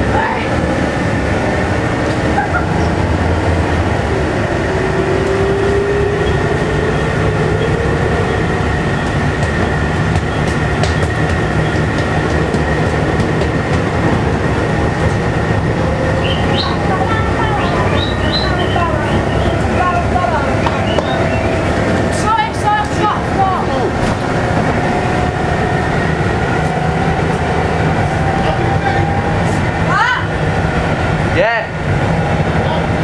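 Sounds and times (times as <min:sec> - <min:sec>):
bus engine low rumble: 0:00.0 - 0:33.0
high drivetrain whine: 0:00.0 - 0:33.0.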